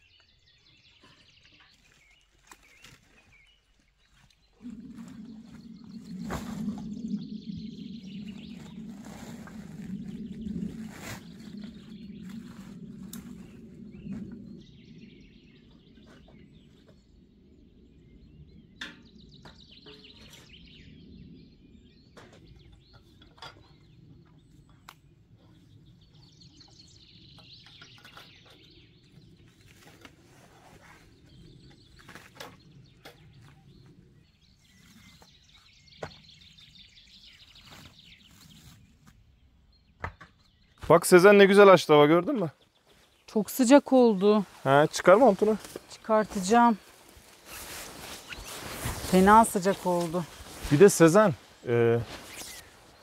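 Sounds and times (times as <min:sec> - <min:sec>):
birds calling: 0:00.0 - 0:53.0.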